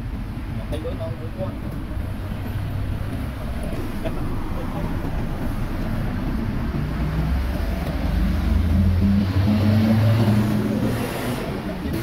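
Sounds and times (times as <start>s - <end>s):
road traffic: 0.0s - 12.0s
vehicle engine drone: 0.4s - 12.0s.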